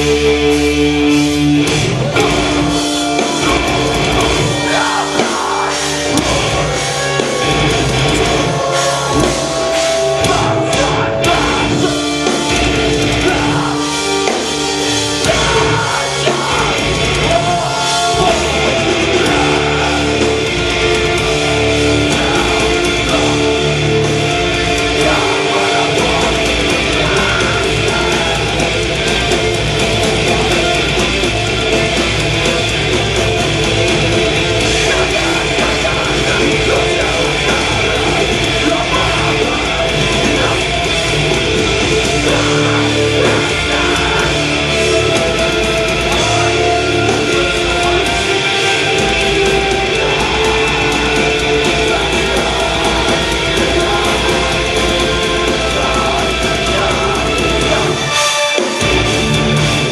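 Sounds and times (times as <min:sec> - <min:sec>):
distorted electric guitars: 0:00.0 - 0:59.9
drums: 0:00.0 - 0:59.9.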